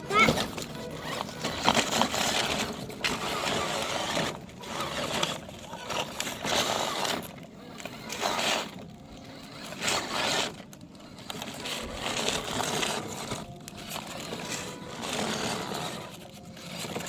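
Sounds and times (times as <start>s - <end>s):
model truck wheels scrabbling: 0.0s - 17.0s.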